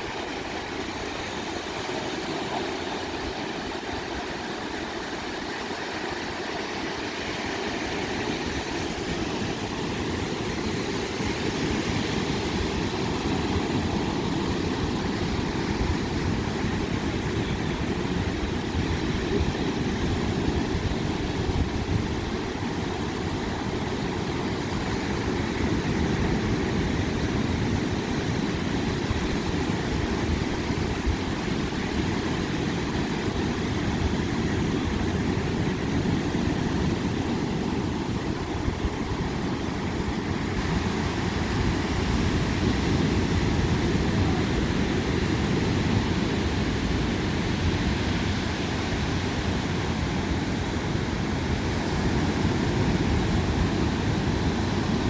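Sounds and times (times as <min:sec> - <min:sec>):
ocean waves washing: 0:00.0 - 0:55.0.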